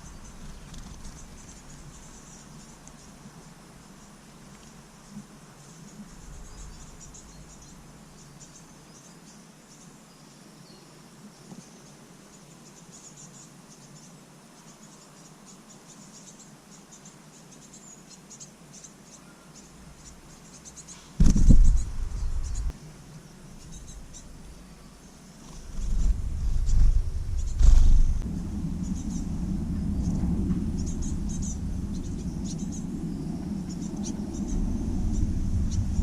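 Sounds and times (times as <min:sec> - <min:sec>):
faint high-pitched chirping: 0:00.0 - 0:36.0.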